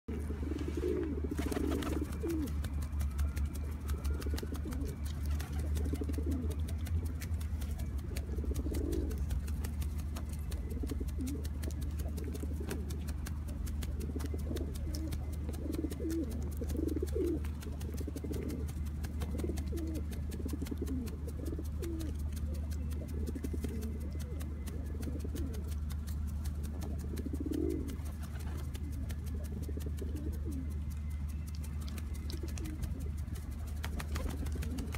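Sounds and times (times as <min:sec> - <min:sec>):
pigeons cooing: 0:00.1 - 0:34.9
steady low rumble: 0:00.1 - 0:34.9.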